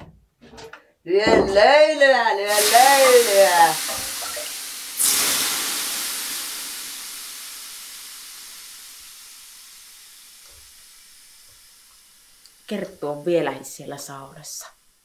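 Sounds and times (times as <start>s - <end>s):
steam hissing on hot stones: 2.5s - 15.0s.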